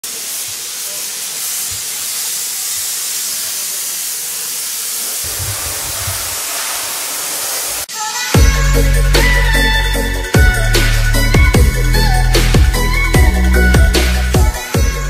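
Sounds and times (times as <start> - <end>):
steam jet hissing: 0.0 - 15.0.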